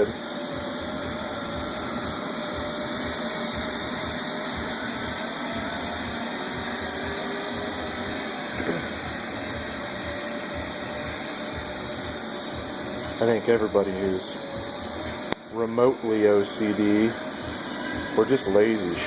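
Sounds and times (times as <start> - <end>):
faint steady tones: 0.0 - 19.0
robot vacuum humming: 0.0 - 19.0.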